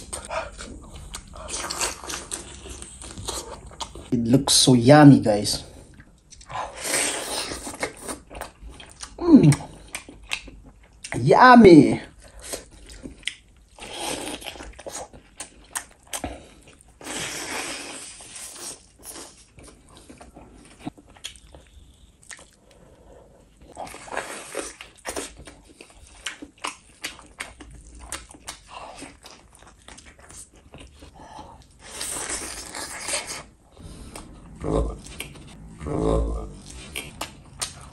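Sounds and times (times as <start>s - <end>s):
wet chewing and crunching: 0.0s - 4.2s, 5.8s - 11.2s, 12.0s - 37.9s.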